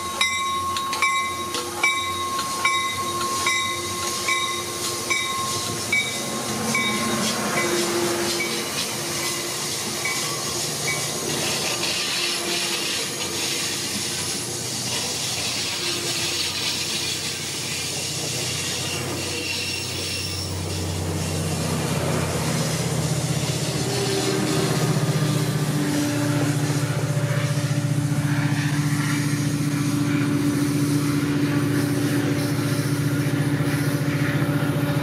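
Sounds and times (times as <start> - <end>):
diesel locomotive engine drone: 0.0 - 35.0
train wheels rushing on rails: 0.0 - 35.0.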